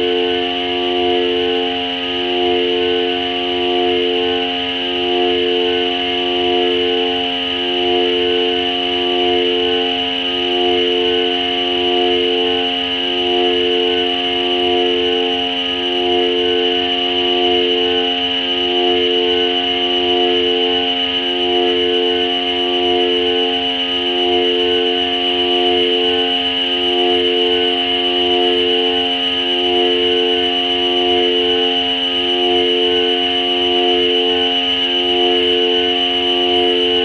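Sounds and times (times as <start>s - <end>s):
high whine: 0.0s - 37.0s
synthesizer ambient drone: 0.0s - 37.0s.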